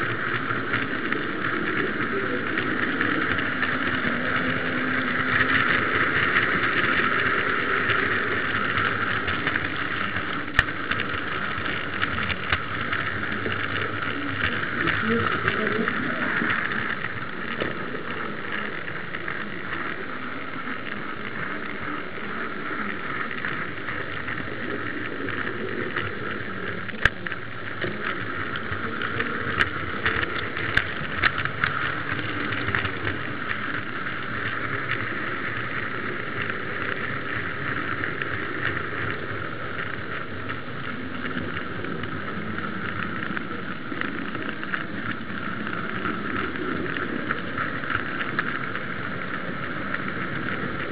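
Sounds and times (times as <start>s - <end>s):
model train whirring rattle: 0.0s - 50.9s.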